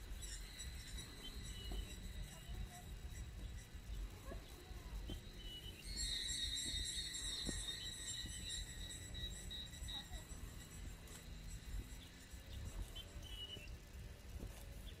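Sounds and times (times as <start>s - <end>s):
dense insect buzz: 0.0s - 15.0s
insects droning: 0.0s - 15.0s.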